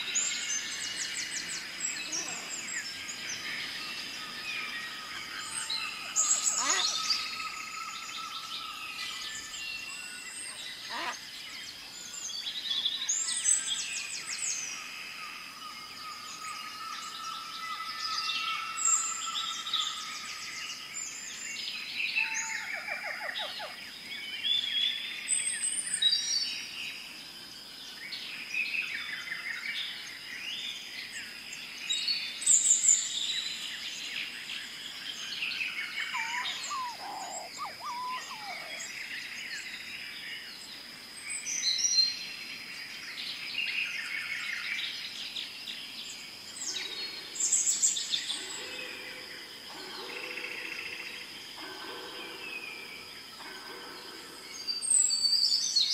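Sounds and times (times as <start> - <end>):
birds chirping and trilling: 0.0 - 27.0, 27.8 - 55.9.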